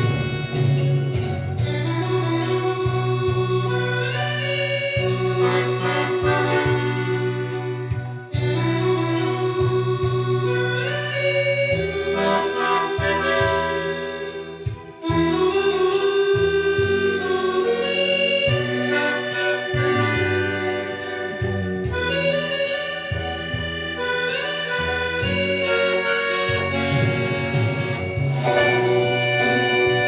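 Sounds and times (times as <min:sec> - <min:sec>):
accordion playing: 0:00.0 - 0:30.0.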